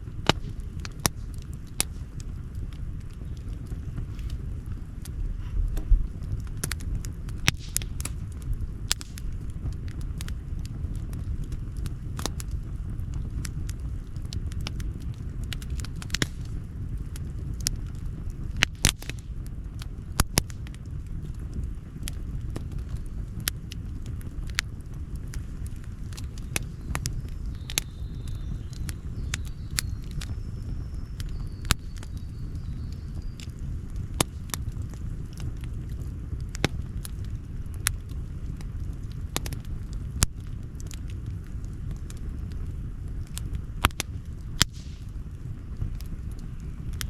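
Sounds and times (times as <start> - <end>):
campfire crackling: 0.0 - 47.0
low steady rumble: 0.0 - 47.0.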